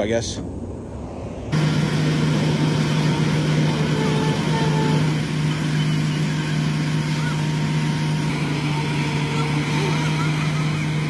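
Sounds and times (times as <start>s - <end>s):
heavy machine engine running: 1.5s - 11.0s.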